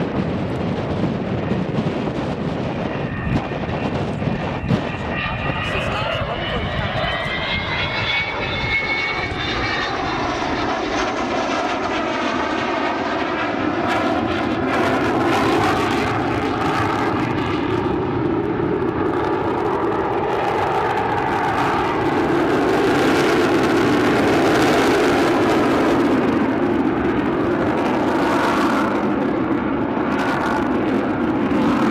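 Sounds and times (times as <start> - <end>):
aircraft engine flypast: 0.0 - 31.9.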